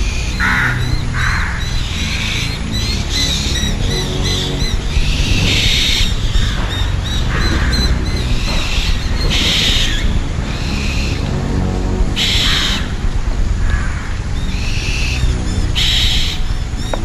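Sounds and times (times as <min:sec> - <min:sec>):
birds calling harshly: 0:00.0 - 0:13.0, 0:13.6 - 0:17.0
ambient music with low rumble: 0:00.0 - 0:17.0.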